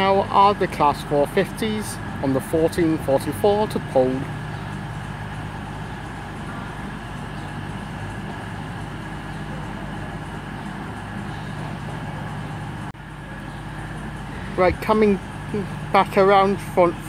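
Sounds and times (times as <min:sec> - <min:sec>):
low hum of trains: 0:00.0 - 0:17.0.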